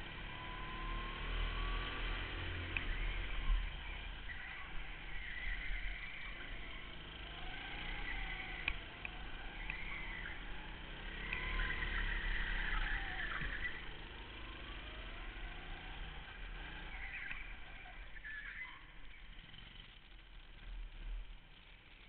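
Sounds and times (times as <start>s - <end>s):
go-kart engine: 0.0s - 22.0s.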